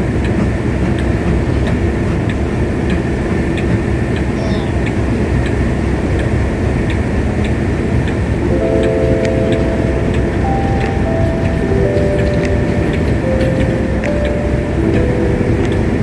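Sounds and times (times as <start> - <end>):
train rumbling: 0.0 - 6.9, 7.8 - 16.0
rail clicks: 0.0 - 16.0.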